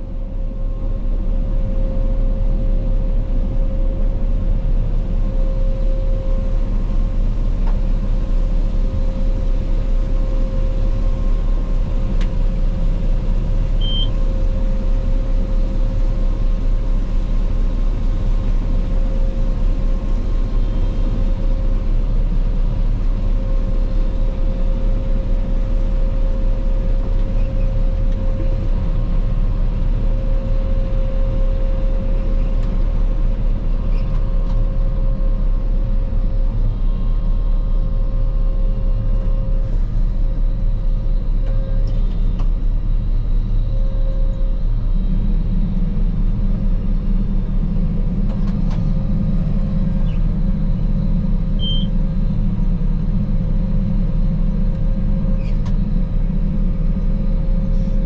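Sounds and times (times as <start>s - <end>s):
combine harvester drone: 0.0s - 58.0s
steady machine whine: 0.0s - 58.0s.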